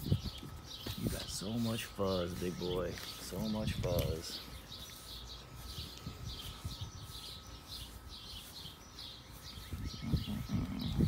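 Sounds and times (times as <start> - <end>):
brush rustling through fur: 0.0 - 10.6
small birds chirping: 0.0 - 11.0.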